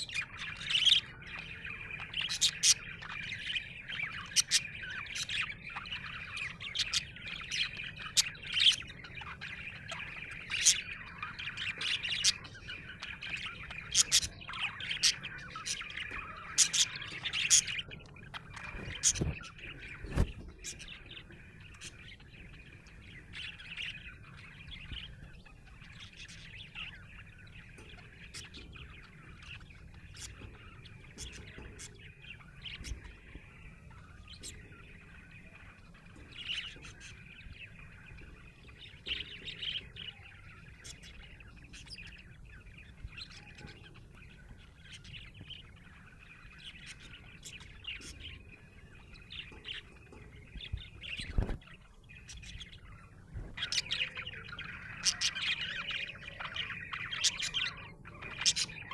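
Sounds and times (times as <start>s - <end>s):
budgerigar chirping: 0.0s - 51.6s, 52.2s - 58.9s.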